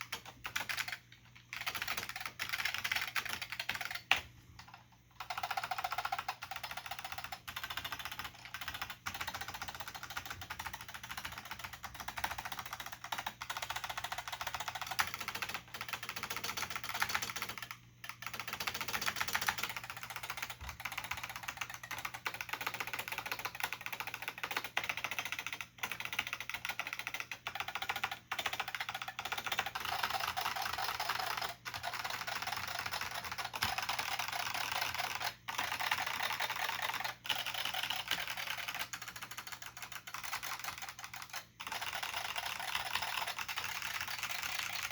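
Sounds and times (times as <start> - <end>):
fast keyboard typing: 0.0 - 44.9.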